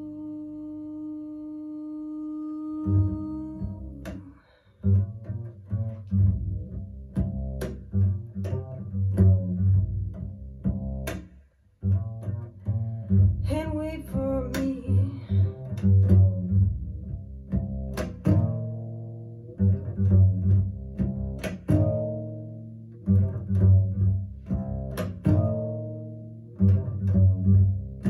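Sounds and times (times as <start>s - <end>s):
plucked double bass: 0.0s - 28.0s.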